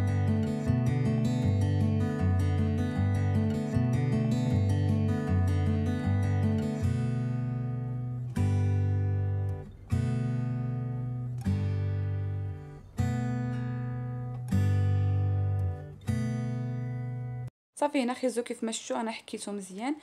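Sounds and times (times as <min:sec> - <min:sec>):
acoustic guitar music: 0:00.0 - 0:17.5.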